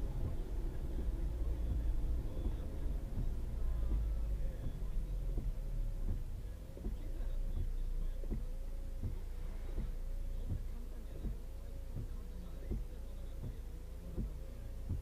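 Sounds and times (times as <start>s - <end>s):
car cabin hum: 0.0s - 15.0s
soft regular thumps: 0.0s - 15.0s.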